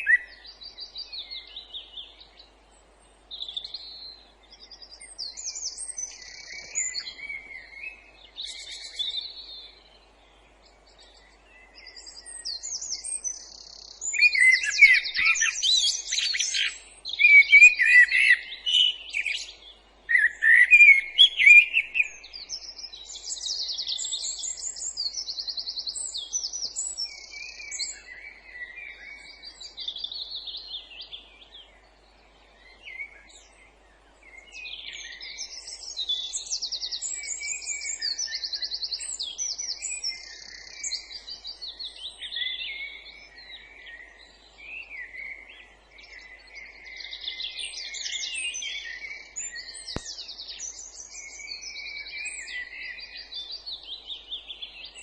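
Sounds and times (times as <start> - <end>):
songbirds trilling and warbling: 0.0 - 55.0.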